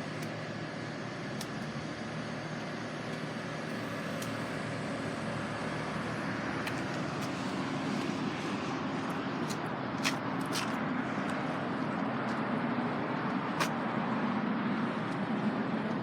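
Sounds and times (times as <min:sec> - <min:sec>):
background traffic noise: 0:00.0 - 0:16.0.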